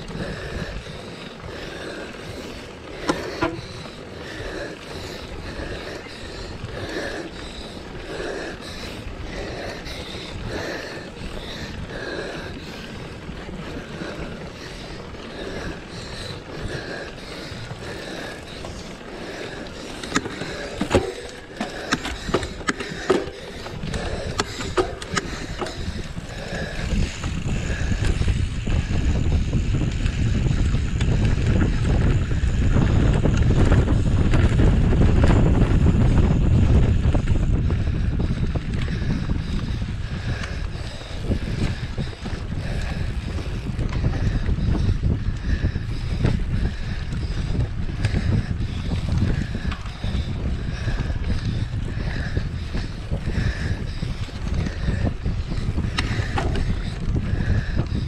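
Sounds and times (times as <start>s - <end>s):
mountain bike rattling: 0.0s - 58.0s
wind on microphone: 0.0s - 58.0s.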